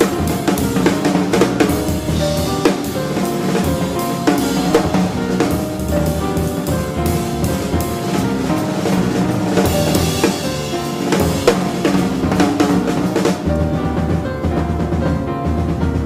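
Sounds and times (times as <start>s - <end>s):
drum kit playing: 0.0s - 16.0s
electric bass line: 0.0s - 16.0s.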